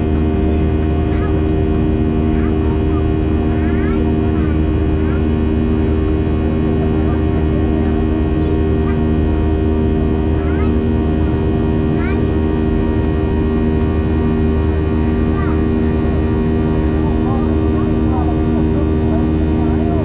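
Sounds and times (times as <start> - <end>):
airplane engine drone in cabin: 0.0 - 20.0.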